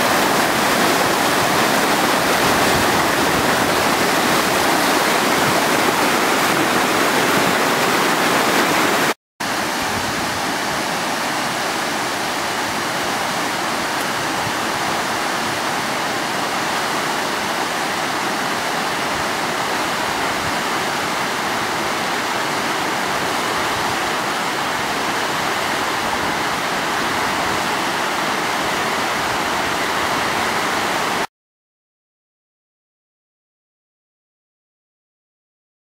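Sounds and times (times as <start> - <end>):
river rapids rushing over rocks: 0.0 - 31.3.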